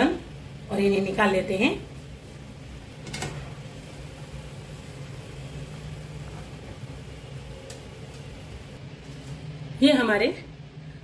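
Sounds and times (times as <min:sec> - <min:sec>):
hot oil sizzling: 0:00.0 - 0:09.4.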